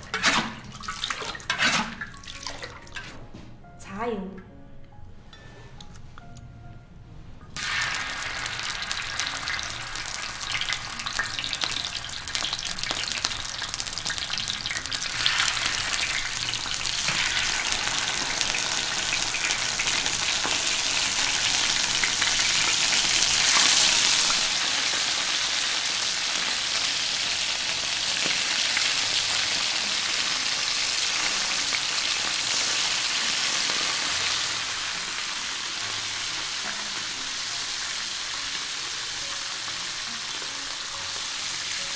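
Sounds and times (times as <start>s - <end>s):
fish frying in oil: 7.6s - 41.9s.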